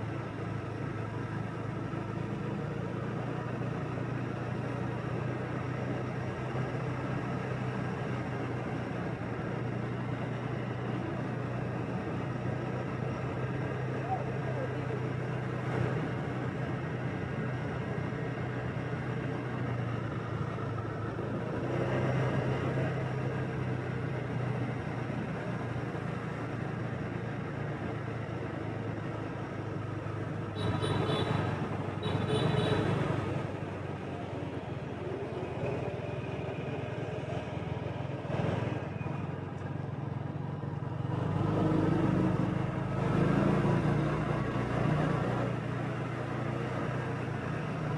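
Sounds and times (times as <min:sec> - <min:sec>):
street traffic hum: 0:00.0 - 0:47.9
vehicles passing: 0:00.0 - 0:47.9.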